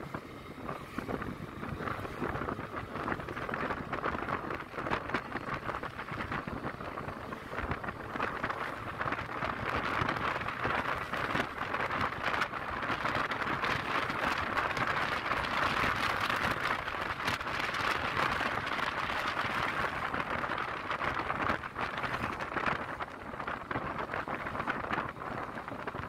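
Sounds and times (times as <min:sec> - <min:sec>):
scooter road noise: 0:00.0 - 0:26.0
wind over microphone: 0:00.0 - 0:26.0.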